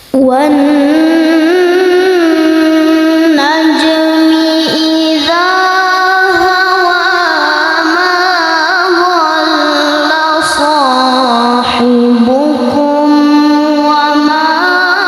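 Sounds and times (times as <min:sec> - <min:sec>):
child reciting melodically: 0:00.1 - 0:15.0.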